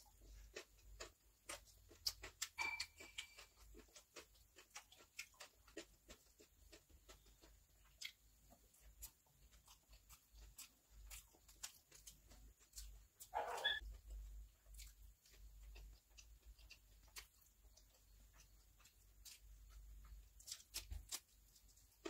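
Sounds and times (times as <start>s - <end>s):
person chewing rice: 0.0s - 22.0s
fingers squishing food on plate: 0.2s - 22.0s.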